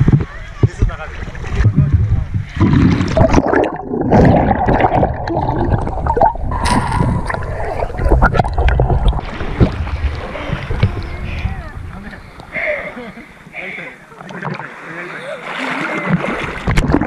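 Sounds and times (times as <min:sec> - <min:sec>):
water splashing and bubbling: 0:00.0 - 0:12.8, 0:14.1 - 0:17.0.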